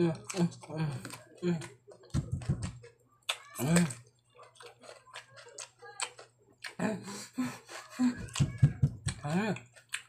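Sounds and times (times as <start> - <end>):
crunching cucumber: 0.0 - 6.8, 8.3 - 10.0.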